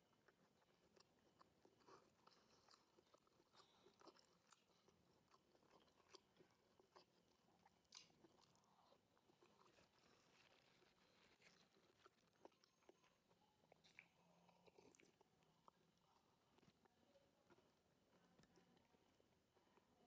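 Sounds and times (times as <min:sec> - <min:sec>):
chewing lettuce: 0:00.0 - 0:19.9.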